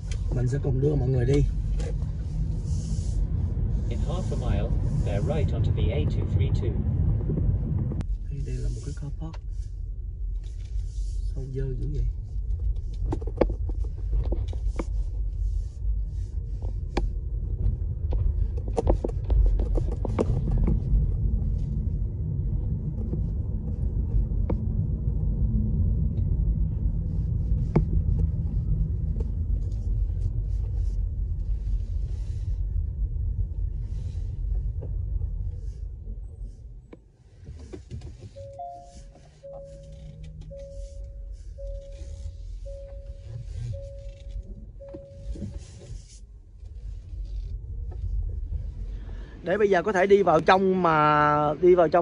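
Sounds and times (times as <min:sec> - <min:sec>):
car cabin rumble: 0:00.0 - 0:52.0.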